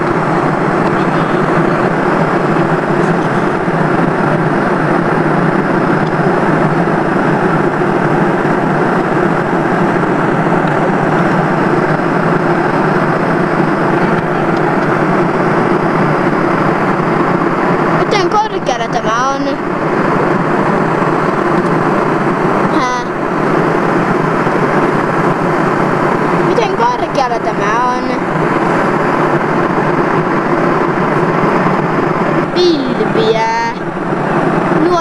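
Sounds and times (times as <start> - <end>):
jet engines and airflow in cabin: 0.0 - 35.0.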